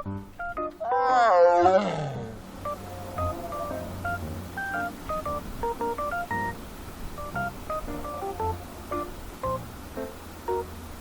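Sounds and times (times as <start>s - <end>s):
light melody of pitched notes: 0.0s - 0.9s, 2.6s - 10.9s.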